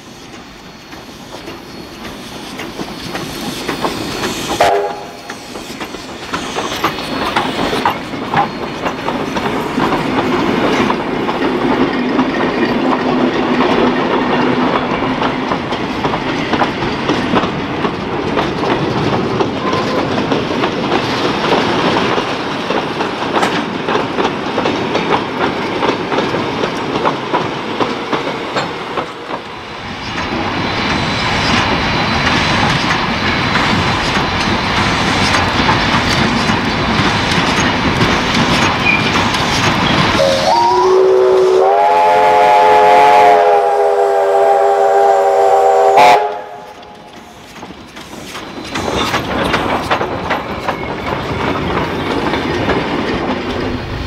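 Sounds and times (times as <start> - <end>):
steam locomotive approaching: 0.0 - 54.0
wheels clicking over rail joints: 0.3 - 40.3, 46.8 - 54.0.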